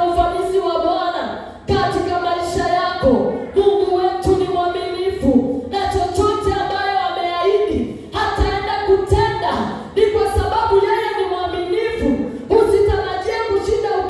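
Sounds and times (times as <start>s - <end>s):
woman singing worship song: 0.0s - 14.0s.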